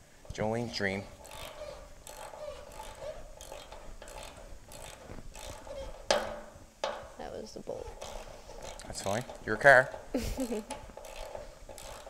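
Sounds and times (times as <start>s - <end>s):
socket ratchet clicking: 1.2s - 7.0s, 7.9s - 12.0s.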